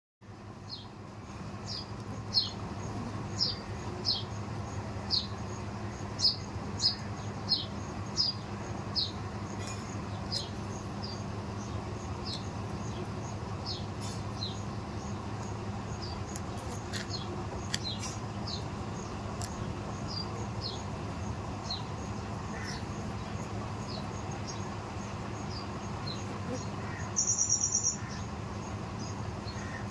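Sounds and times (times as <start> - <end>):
steady low hum: 0.2 - 29.9.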